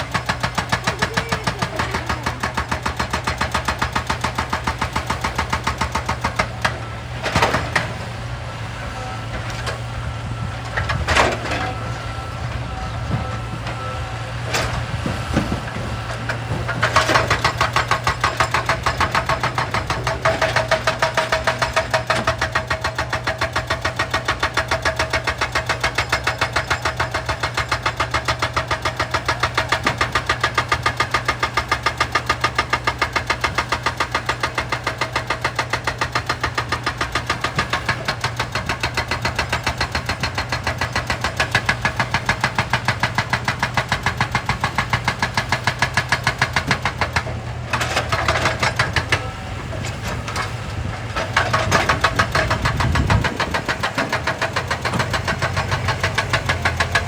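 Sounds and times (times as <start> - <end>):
excavator engine running: 0.0 - 57.0
excavator pounding rock: 0.0 - 57.0.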